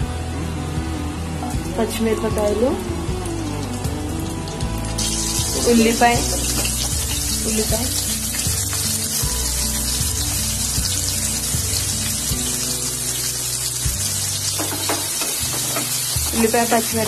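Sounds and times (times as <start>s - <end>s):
background music: 0.0s - 17.0s
onions sizzling in hot oil: 2.7s - 17.0s.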